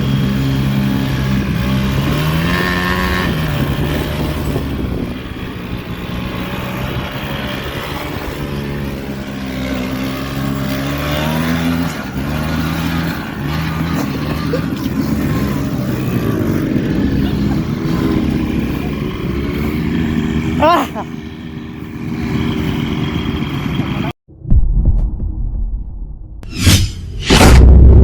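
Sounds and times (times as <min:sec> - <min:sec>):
vehicle engine revving: 0:00.0 - 0:24.2.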